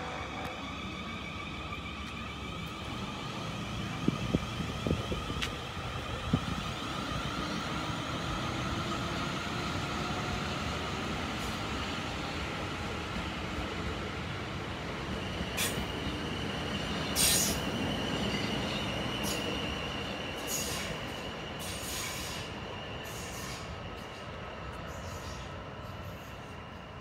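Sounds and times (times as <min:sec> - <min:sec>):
low train rumble: 0:00.0 - 0:27.0.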